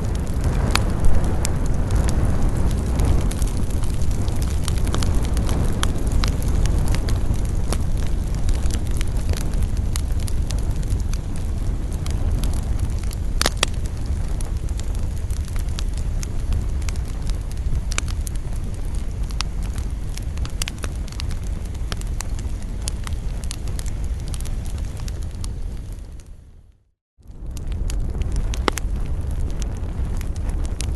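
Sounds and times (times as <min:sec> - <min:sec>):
wood fire crackling and popping: 0:00.0 - 0:30.9.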